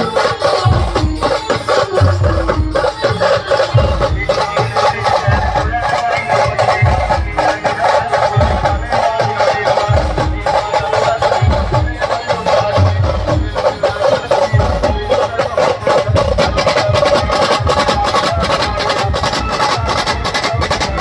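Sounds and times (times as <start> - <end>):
heavy drum beats: 0.0 - 21.0
live band melody: 0.0 - 21.0
rapid percussion strokes: 0.0 - 21.0.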